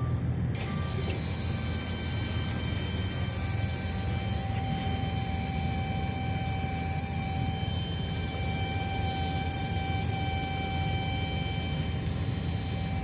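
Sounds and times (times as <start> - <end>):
mechanical drone with whine: 0.0 - 13.0.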